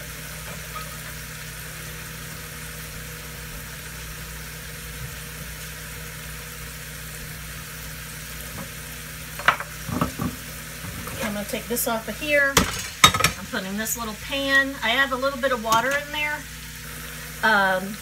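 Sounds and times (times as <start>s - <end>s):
food sizzling in pans: 0.0s - 18.0s.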